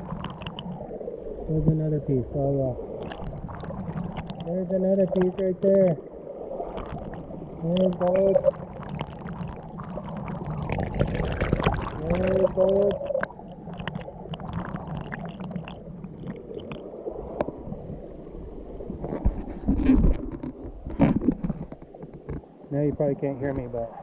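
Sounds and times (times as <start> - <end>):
creek water gurgling and splashing: 0.0 - 24.0.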